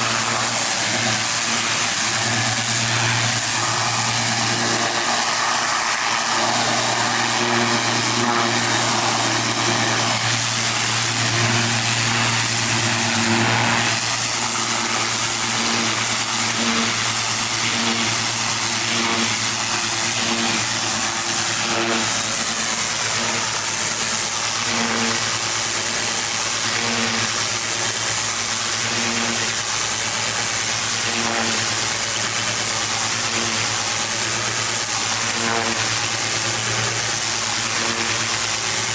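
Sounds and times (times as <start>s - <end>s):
high-pressure spray hissing: 0.0s - 38.9s
pressure washer engine hum: 0.0s - 38.9s.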